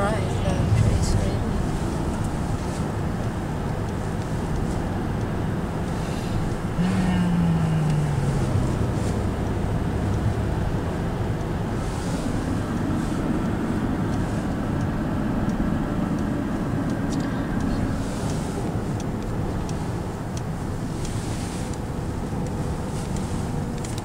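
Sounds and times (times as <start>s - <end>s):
car engine and road noise: 0.0s - 24.0s
low steady hum: 0.0s - 24.0s.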